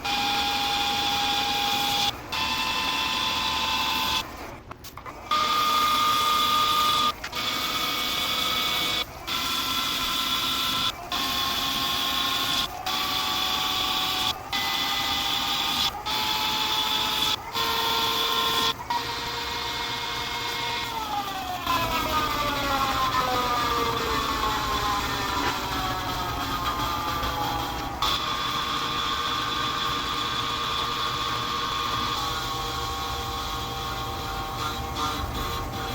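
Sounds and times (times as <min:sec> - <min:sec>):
metal lathe whine: 0:00.0 - 0:04.5, 0:05.1 - 0:35.9.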